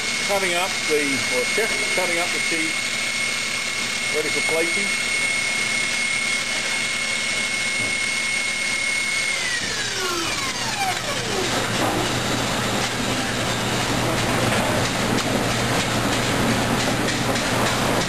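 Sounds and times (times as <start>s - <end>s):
high motor whine: 0.0s - 18.0s.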